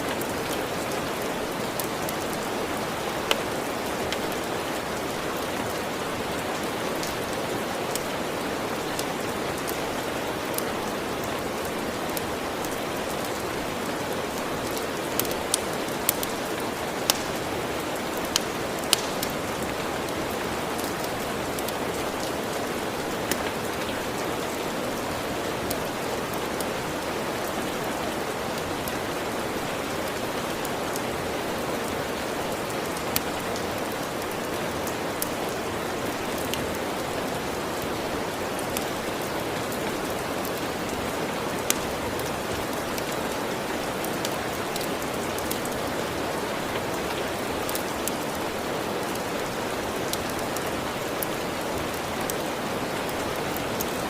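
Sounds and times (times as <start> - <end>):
wood fire crackling: 0.0 - 27.7, 36.1 - 54.0
steady rain falling: 0.0 - 54.0.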